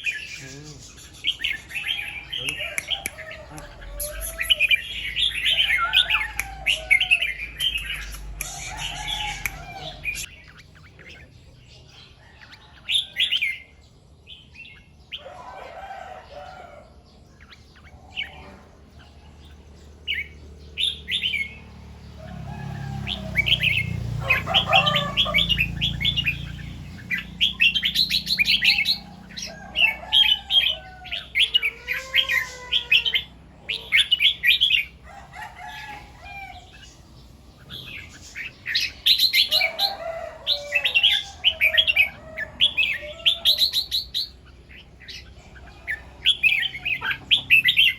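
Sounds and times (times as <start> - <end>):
birds singing rapid phrases: 0.0 - 47.9.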